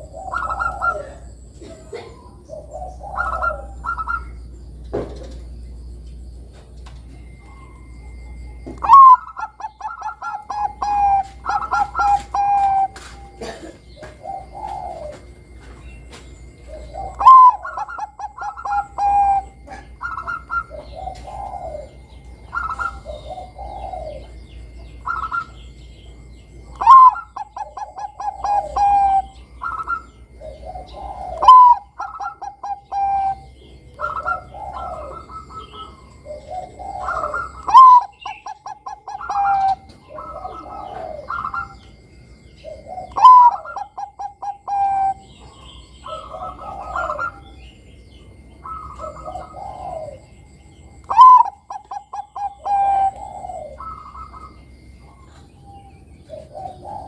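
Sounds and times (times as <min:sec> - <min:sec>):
dove cooing: 0:00.0 - 0:05.9, 0:07.1 - 0:57.0.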